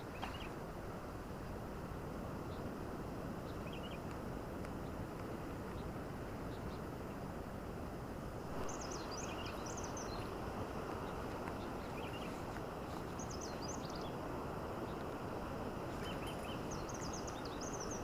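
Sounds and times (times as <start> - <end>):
low rushing night ambience: 0.0 - 18.0.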